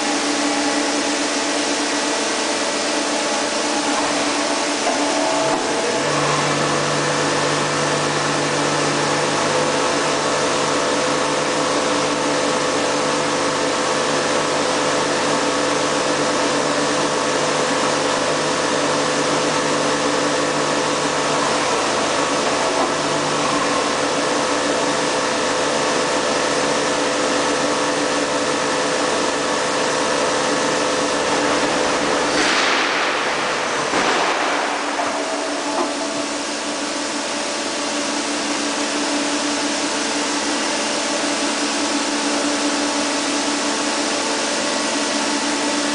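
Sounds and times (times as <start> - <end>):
lathe machine hum: 0.0 - 45.9.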